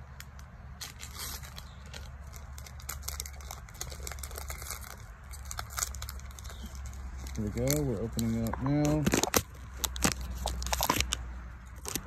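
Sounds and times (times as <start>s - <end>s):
low steady rumble: 0.0s - 12.0s
foil wrapper crinkling: 0.2s - 12.0s.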